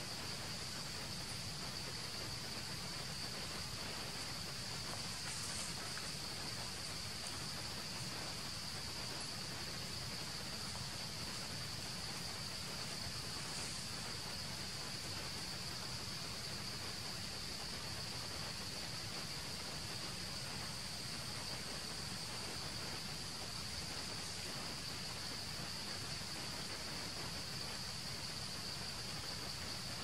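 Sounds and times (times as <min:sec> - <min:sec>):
insect chorus: 0:00.0 - 0:30.0
soft outdoor hiss: 0:00.0 - 0:30.0.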